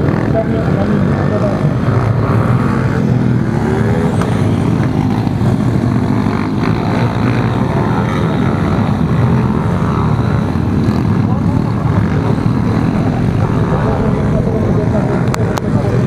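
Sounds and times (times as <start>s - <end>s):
pit bike engines buzzing and revving: 0.0s - 16.0s.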